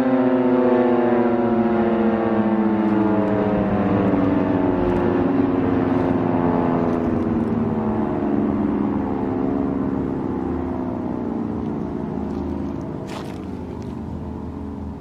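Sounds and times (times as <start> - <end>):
warning siren falling in pitch: 0.0 - 15.0.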